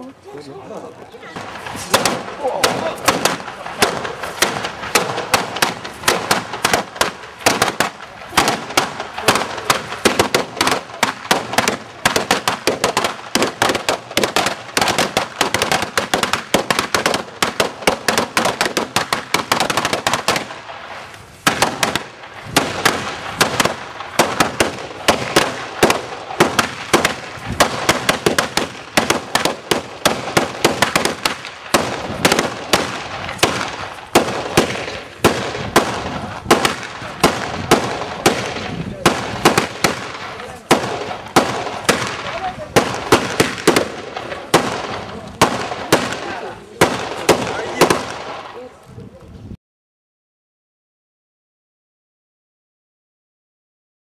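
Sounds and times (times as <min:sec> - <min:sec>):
firecrackers crackling: 0:00.0 - 0:49.6.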